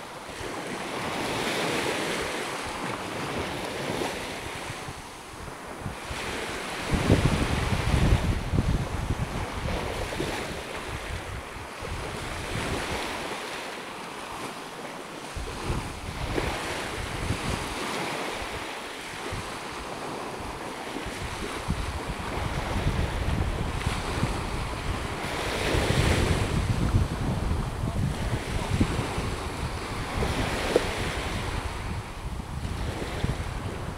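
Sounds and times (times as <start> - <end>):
wind buffeting microphone: 0.0 - 14.5, 15.2 - 33.9
small waves washing onto shore: 0.0 - 33.9.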